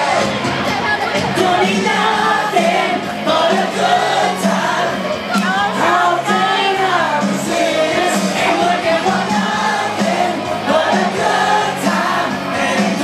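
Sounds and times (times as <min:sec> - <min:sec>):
rock backing track: 0:00.0 - 0:13.0
voices singing along: 0:00.0 - 0:13.0
man singing into a microphone: 0:01.4 - 0:13.0.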